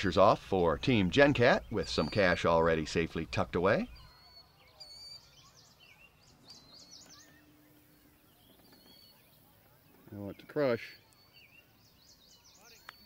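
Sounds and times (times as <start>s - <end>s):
distant birds chirping: 0.0s - 13.0s.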